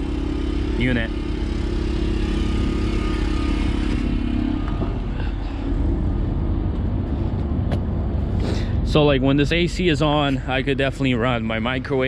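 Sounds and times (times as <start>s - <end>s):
portable generator running: 0.0s - 12.0s.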